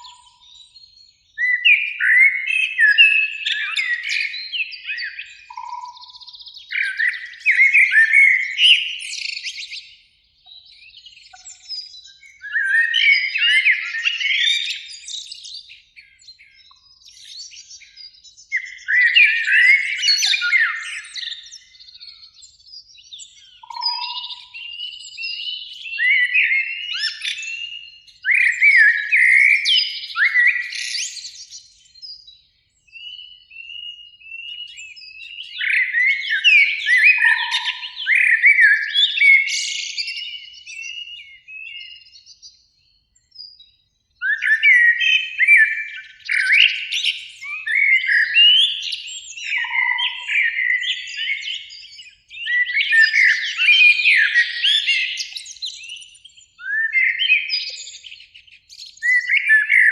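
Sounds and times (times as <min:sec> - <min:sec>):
blackbird singing: 0:00.0 - 0:59.9.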